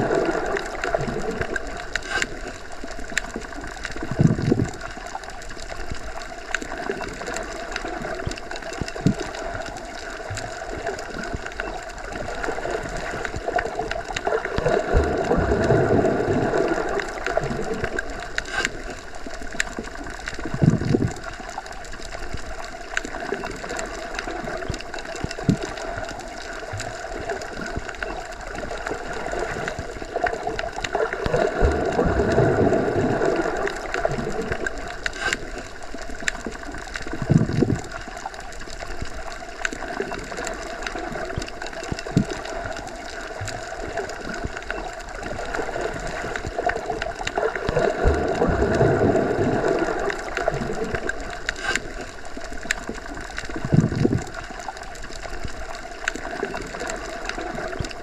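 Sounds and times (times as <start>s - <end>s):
muffled underwater water rush: 0.0s - 58.0s.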